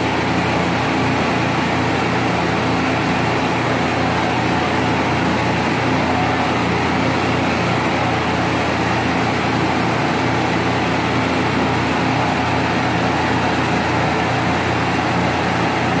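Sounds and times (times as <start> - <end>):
gas torch roaring: 0.0 - 16.0.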